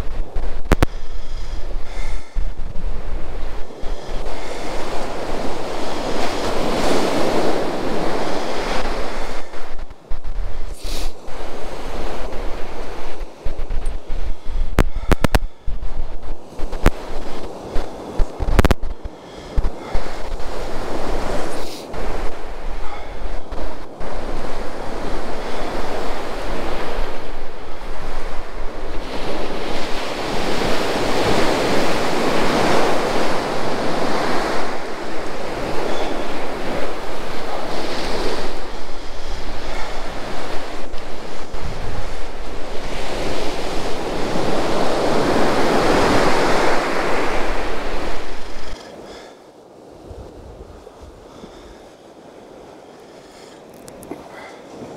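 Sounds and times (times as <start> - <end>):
surf breaking on beach: 0.0 - 54.9
wind rumbling on microphone: 0.0 - 54.9.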